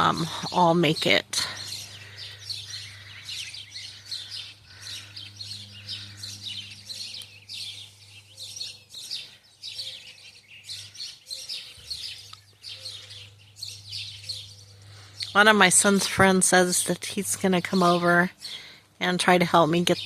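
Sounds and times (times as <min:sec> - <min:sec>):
low steady hum: 0:00.0 - 0:09.4, 0:11.6 - 0:20.0
songbirds chirping: 0:00.0 - 0:20.0.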